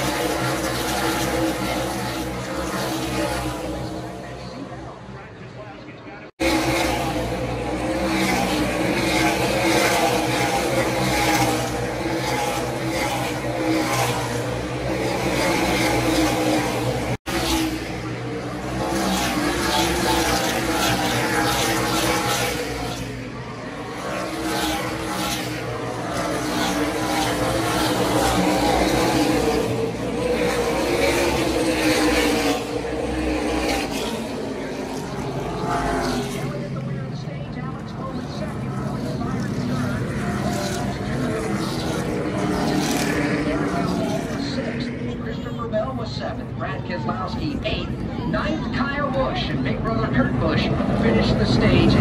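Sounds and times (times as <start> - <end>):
race car engines drone: 0.0 - 52.0.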